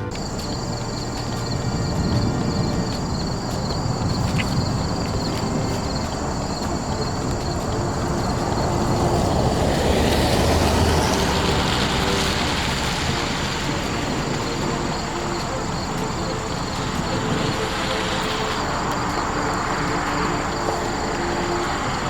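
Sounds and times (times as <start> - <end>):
vehicle road noise: 0.0 - 22.0.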